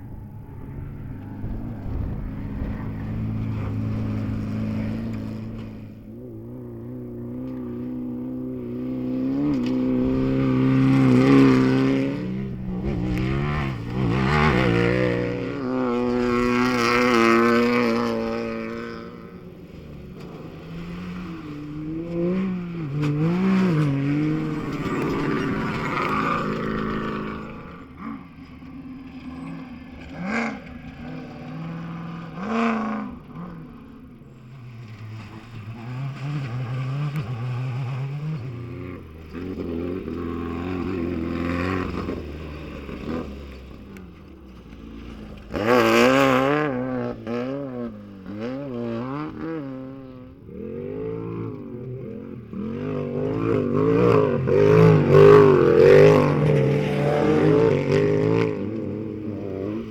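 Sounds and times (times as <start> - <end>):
race vehicles revving past: 0.0 - 59.9.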